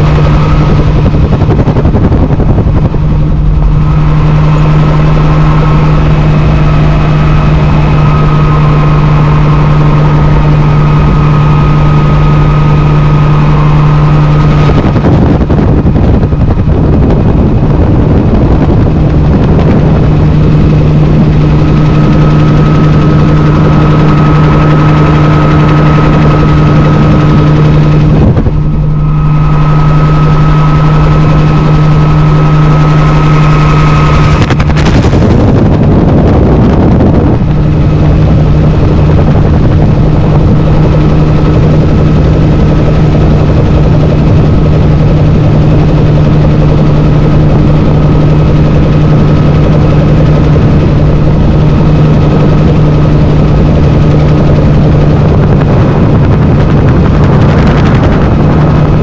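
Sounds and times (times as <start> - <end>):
helicopter engine and rotor drone: 0.0 - 59.0
rush of broad noise: 0.0 - 59.0.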